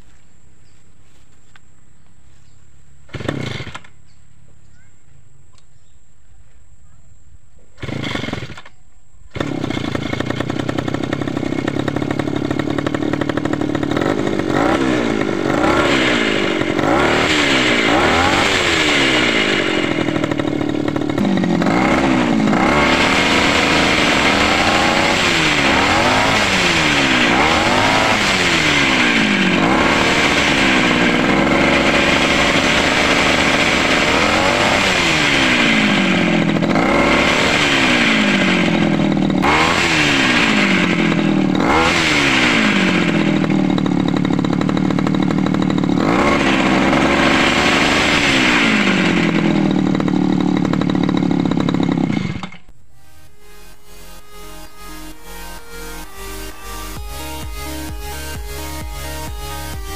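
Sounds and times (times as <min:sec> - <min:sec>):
two-stroke engine revving: 0:03.0 - 0:04.1, 0:07.8 - 0:59.9.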